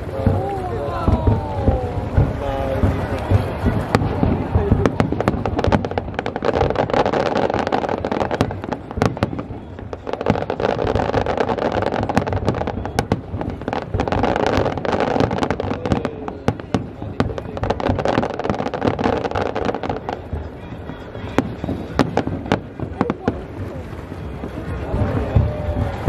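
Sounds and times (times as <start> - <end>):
fireworks cracking and popping: 0.0 - 26.0
steady background noise: 0.0 - 26.0.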